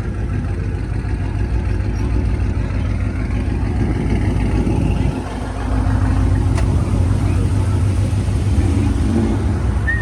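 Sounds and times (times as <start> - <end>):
car engine with exhaust rumble: 0.0 - 10.0.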